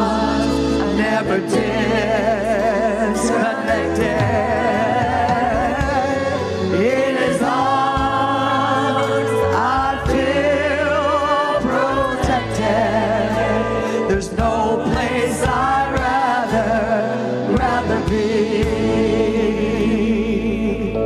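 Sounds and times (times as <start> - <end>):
gospel voices singing: 0.0 - 21.0
instrumental backing: 0.0 - 21.0.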